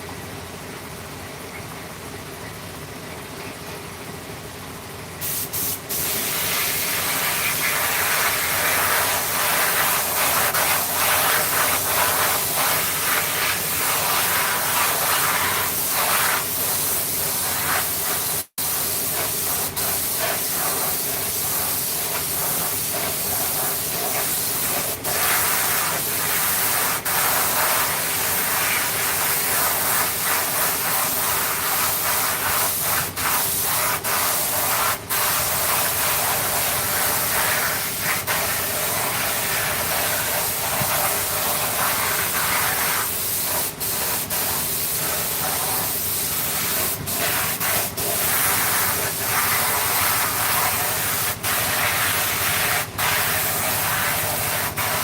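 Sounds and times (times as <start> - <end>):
hiss of rushing air or spray: 5.2 - 55.0.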